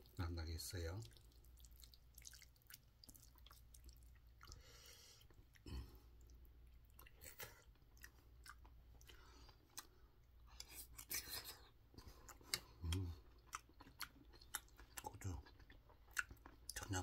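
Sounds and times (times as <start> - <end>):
close-up wet chewing: 1.0 - 17.0.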